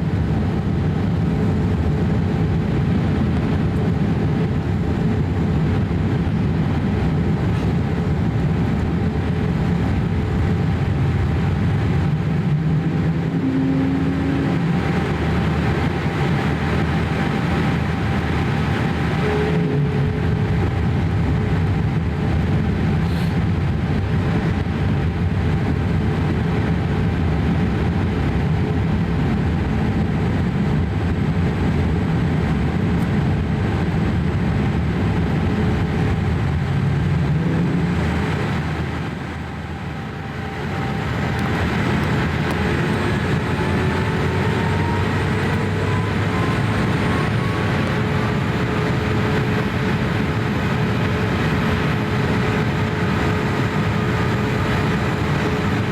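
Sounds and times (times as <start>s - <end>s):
faint rising whines: 0.0s - 22.9s, 24.6s - 55.9s
airflow rushing in cabin: 0.0s - 55.9s
jet engines droning: 0.0s - 55.9s.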